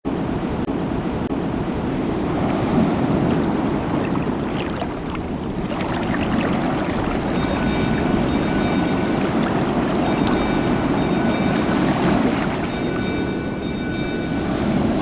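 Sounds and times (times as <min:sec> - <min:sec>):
sea waves washing: 0:01.8 - 0:15.0.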